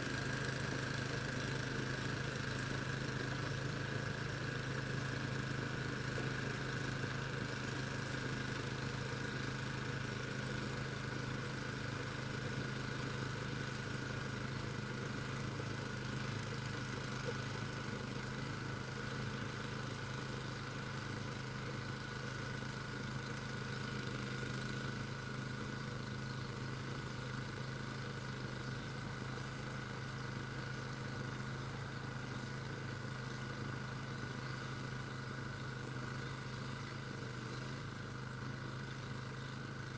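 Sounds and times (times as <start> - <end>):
snow clearing machine engine: 0.0 - 39.9
thin steady whine: 0.0 - 39.9.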